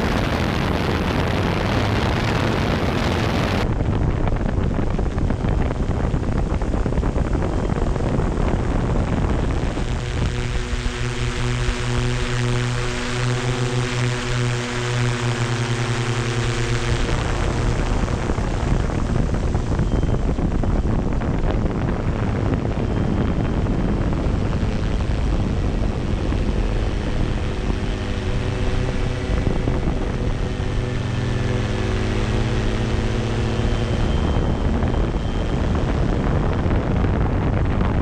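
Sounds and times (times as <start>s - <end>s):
drone propellers humming: 0.0s - 38.0s
rotor wash and wind rushing: 0.0s - 38.0s.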